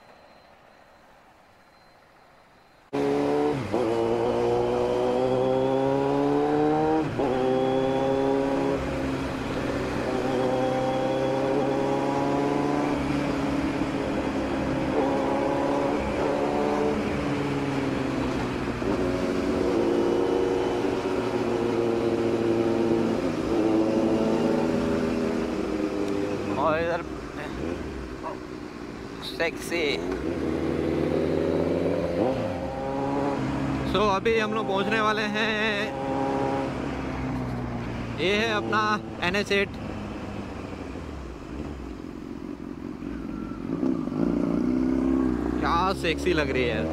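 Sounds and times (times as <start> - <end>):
wind and road noise: 0.0 - 46.9
motorcycle engine accelerating: 2.9 - 29.0, 29.8 - 34.0, 34.6 - 46.9.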